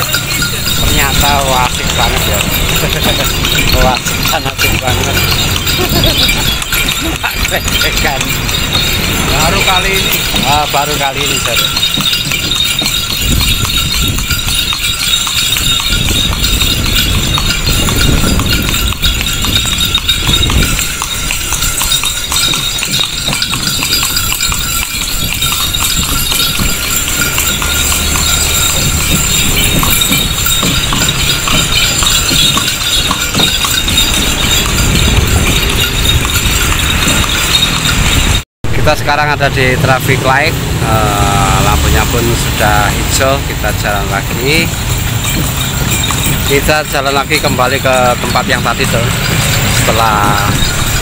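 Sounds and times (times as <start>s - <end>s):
carriage ride rumble and hiss: 0.0s - 38.4s, 39.5s - 51.0s
horse hooves clip-clopping on road: 0.0s - 51.0s.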